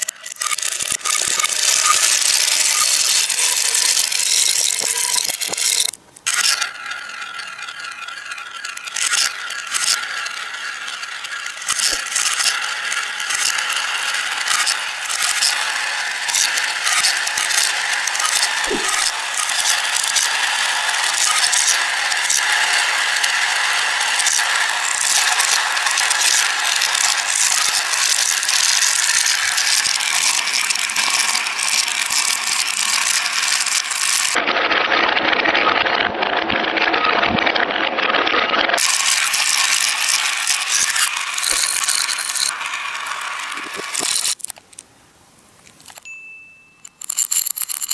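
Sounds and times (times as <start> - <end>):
marbles rattling down a track: 0.0 - 44.8, 46.8 - 47.9.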